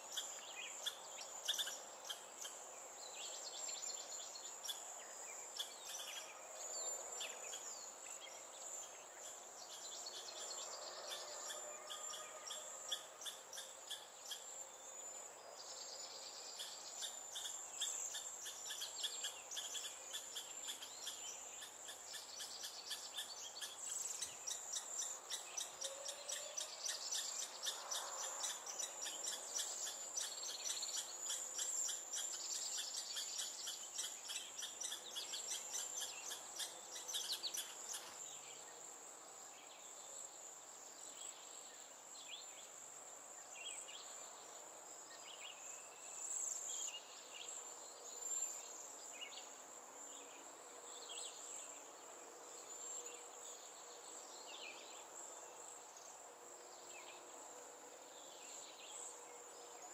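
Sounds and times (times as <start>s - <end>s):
insect chirps: 0.0s - 59.9s.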